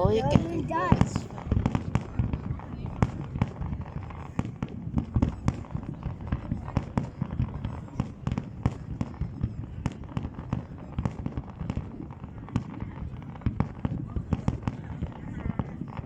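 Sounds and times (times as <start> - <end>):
fireworks bangs and pops: 0.0 - 16.0
low rumble of fireworks: 0.0 - 16.0.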